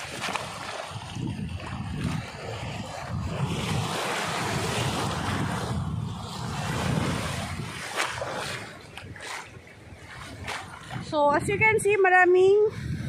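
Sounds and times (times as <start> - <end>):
small waves washing over sand: 0.0 - 13.0
wind buffeting microphone: 0.0 - 13.0.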